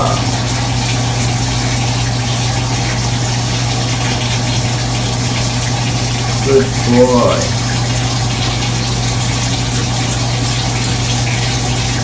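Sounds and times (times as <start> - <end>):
shower water running: 0.0 - 12.0.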